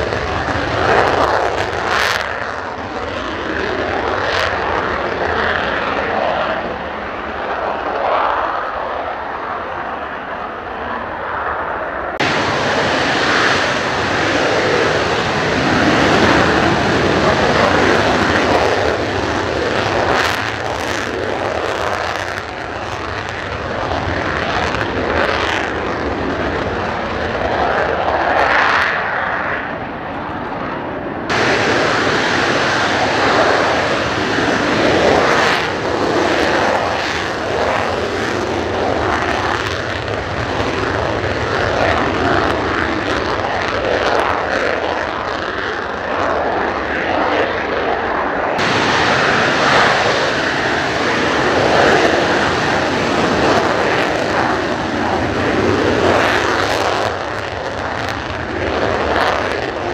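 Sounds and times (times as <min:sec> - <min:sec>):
jet engine roar at takeoff: 0:00.0 - 0:59.9.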